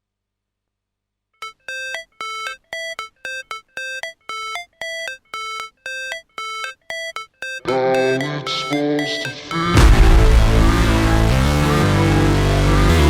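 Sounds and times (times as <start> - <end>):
keyboard riff: 1.4 - 13.0.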